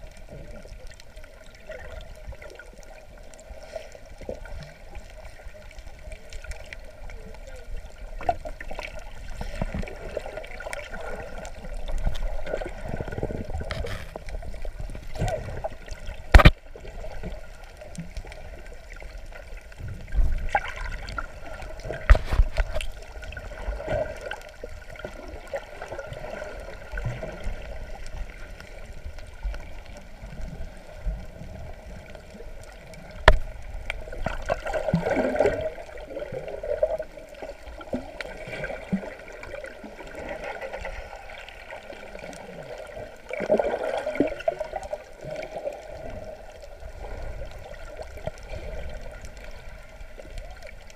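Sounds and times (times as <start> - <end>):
water swishing and gurgling underwater: 0.0 - 50.9.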